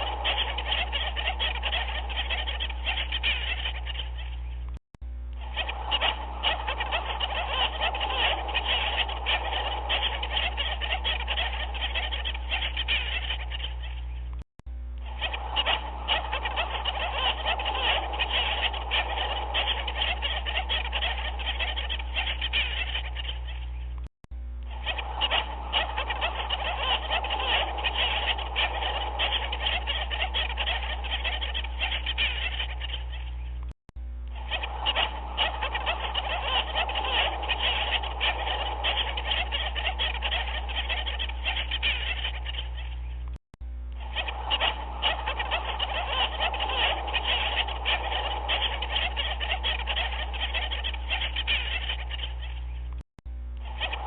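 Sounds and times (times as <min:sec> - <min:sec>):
chorus of animal calls: 0:00.0 - 0:04.7, 0:05.4 - 0:14.4, 0:15.0 - 0:24.0, 0:24.7 - 0:33.6, 0:34.3 - 0:43.3, 0:43.9 - 0:53.0, 0:53.6 - 0:54.0
low steady hum: 0:00.0 - 0:54.0.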